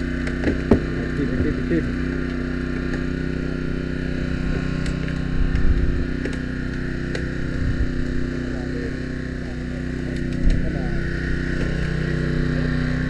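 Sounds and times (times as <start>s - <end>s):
power unit engine drone: 0.0s - 13.0s.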